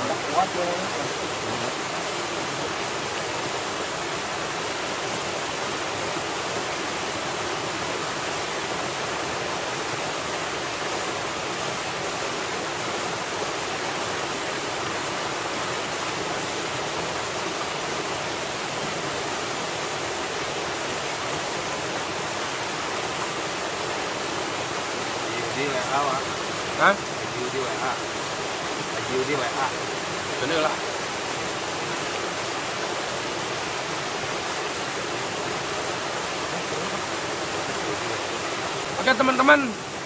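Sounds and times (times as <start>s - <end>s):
waterfall rushing over rocks: 0.0s - 40.0s.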